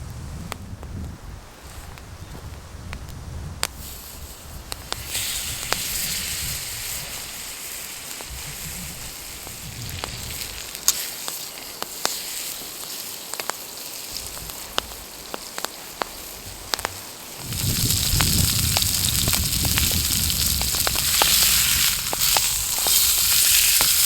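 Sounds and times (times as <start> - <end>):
campfire pops and crackles: 1.8 - 24.0
food sizzling: 3.8 - 24.0.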